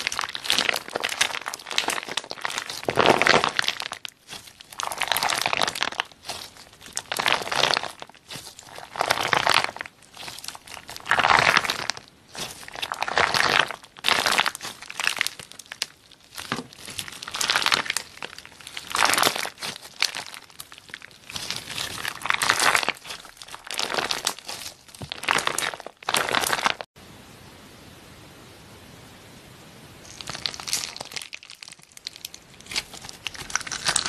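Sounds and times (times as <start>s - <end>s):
slime squished by hand: 0.0s - 26.8s, 30.1s - 34.0s.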